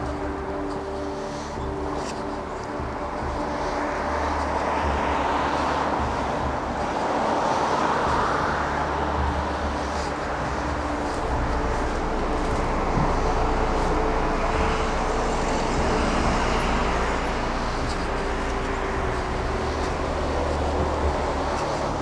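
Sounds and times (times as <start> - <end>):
steady engine hum: 0.0 - 22.0
vehicles passing: 0.0 - 22.0.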